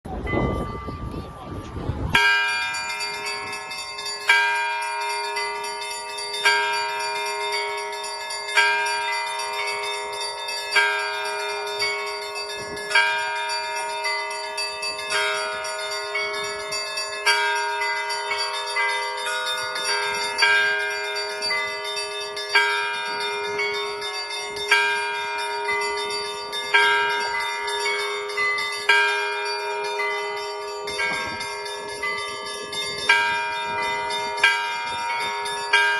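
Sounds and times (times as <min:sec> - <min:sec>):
church bells ringing: 0:00.1 - 0:35.9.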